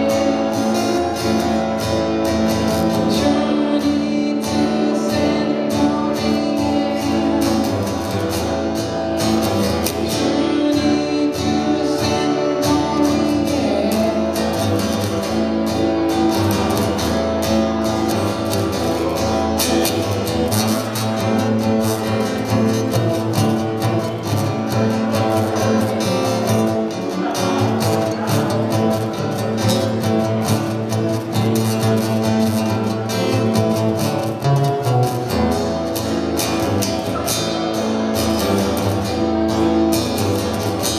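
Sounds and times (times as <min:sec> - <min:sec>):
acoustic guitar strummed: 0:00.0 - 0:40.9.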